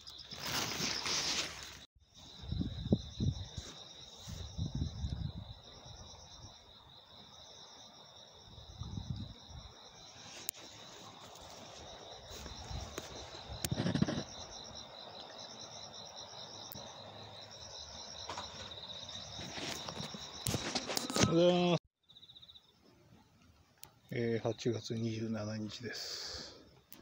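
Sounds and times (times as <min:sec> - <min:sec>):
pulsing insect trill: 0:00.0 - 0:22.8
insects trilling: 0:00.0 - 0:27.0.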